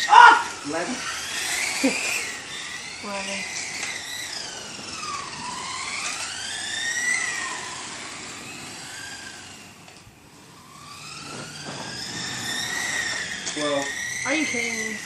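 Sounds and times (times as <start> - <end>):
rc car motors whining: 0.0 - 15.0.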